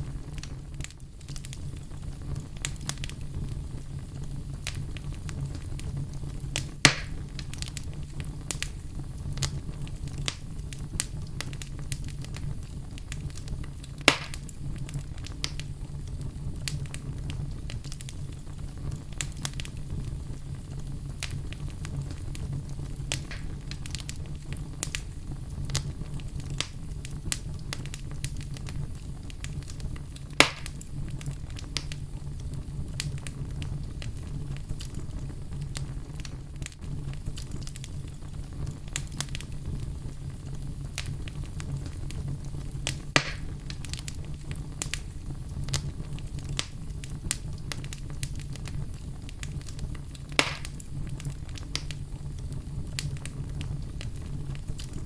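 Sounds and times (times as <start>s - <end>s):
fire burning in fireplace: 0.0s - 55.0s
fire crackles: 0.0s - 55.0s
loud fire pops: 0.0s - 55.0s.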